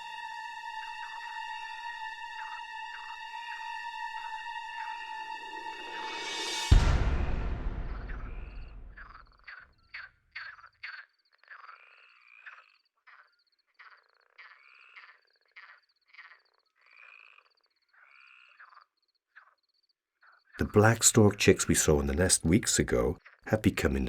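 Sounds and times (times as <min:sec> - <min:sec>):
frogs croaking: 0:00.0 - 0:05.3, 0:08.3 - 0:24.0.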